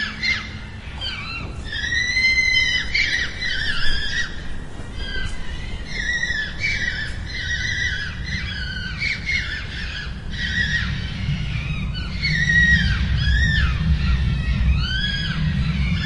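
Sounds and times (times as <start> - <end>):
fox screeching: 0.0 - 16.0
low background rumble: 0.0 - 16.0.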